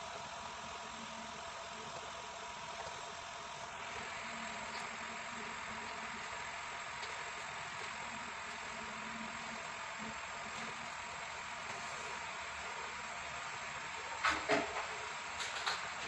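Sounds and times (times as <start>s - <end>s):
air compressor humming: 0.0s - 16.0s.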